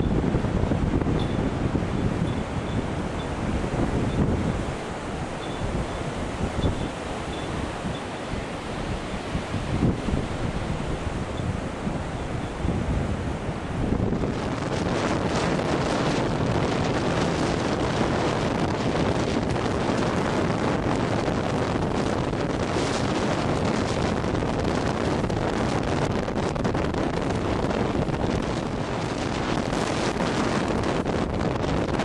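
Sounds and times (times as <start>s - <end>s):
lake waves: 0.0s - 32.0s
wind buffeting microphone: 0.0s - 32.0s.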